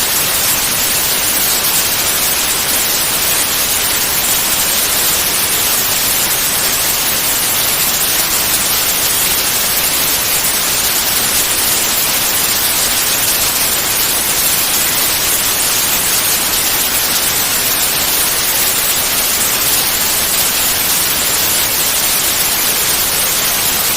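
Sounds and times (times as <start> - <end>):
white noise hiss: 0.0 - 23.9.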